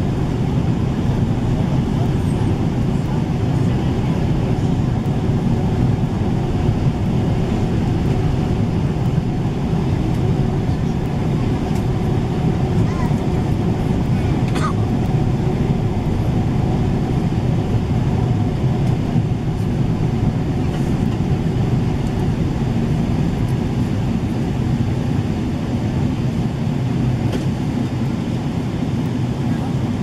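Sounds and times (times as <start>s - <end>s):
airflow roar in aircraft cabin: 0.0s - 30.0s
jet engines: 0.0s - 30.0s.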